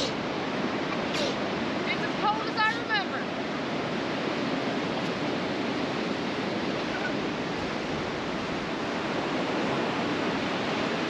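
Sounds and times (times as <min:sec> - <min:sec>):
ocean surf washing up beach: 0:00.0 - 0:11.0.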